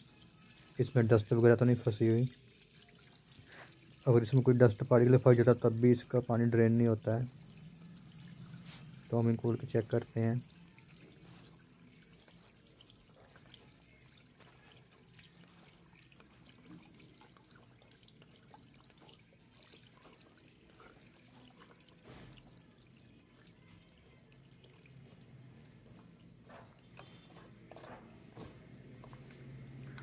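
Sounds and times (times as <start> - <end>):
water trickling and dripping: 0.0 - 30.0.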